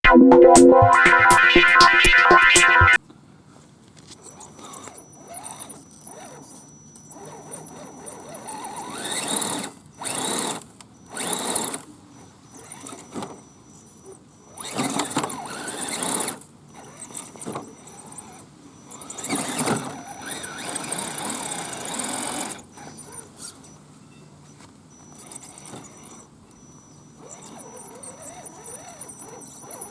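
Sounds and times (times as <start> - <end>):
toy truck electric motor whining: 4.3 - 23.8, 24.6 - 29.9.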